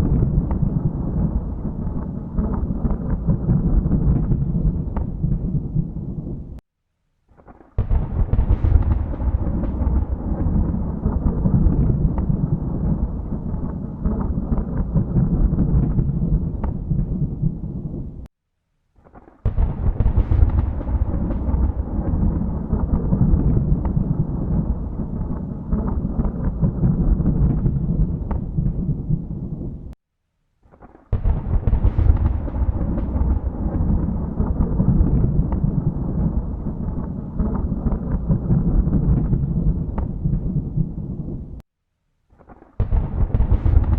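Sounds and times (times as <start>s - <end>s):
sharp thunderclap crack: 0.0s - 6.6s, 7.4s - 18.3s, 19.1s - 30.0s, 30.8s - 41.6s, 42.4s - 43.9s
thunder rumbling: 0.0s - 6.6s, 7.8s - 18.3s, 19.4s - 30.0s, 31.1s - 41.6s, 42.8s - 43.9s.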